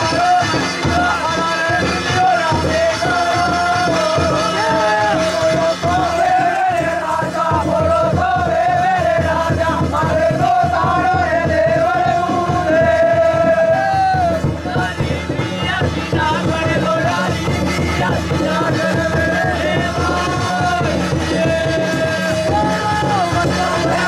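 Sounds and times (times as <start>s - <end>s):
crowd noise: 0.0s - 24.0s
fast steady drumming: 0.0s - 24.0s
high held melody: 0.0s - 24.0s.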